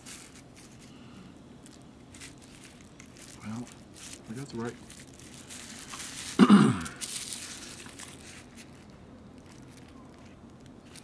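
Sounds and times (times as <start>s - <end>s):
cables and plastic rustling: 0.0s - 11.0s.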